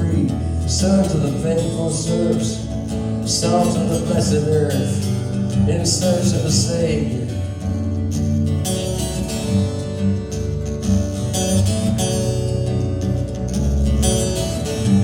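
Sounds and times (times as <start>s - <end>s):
live band playing country-rock: 0.0s - 15.0s
steady bass: 0.0s - 15.0s
strummed acoustic guitar: 0.0s - 15.0s.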